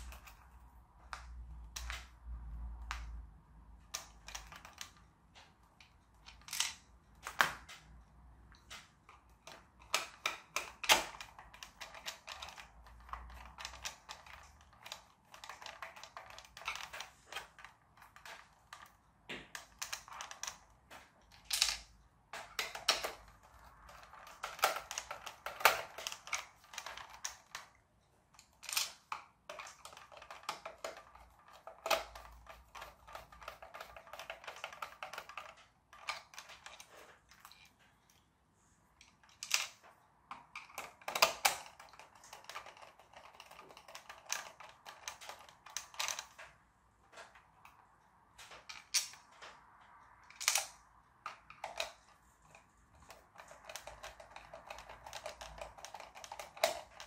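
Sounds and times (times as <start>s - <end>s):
plastic toy parts clicking: 0.0s - 38.2s, 39.0s - 57.0s.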